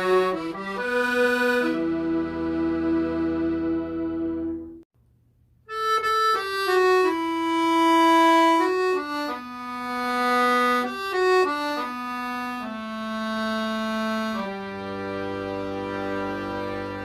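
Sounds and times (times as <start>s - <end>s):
solo accordion melody: 0.0s - 4.8s, 5.7s - 17.0s.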